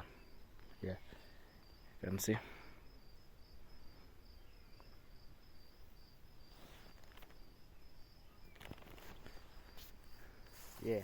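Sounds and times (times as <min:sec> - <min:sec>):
insect chirping in steady pulse: 0:00.0 - 0:11.0.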